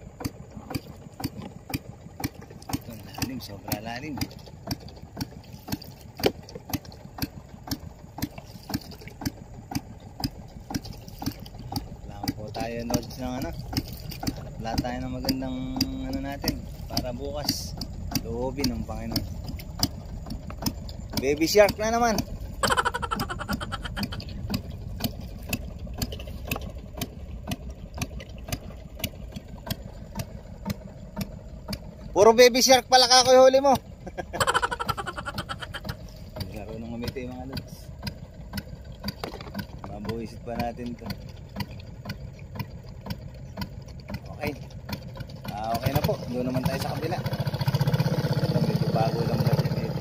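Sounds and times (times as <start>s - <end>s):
boat motor idling with knock: 0.0s - 50.0s.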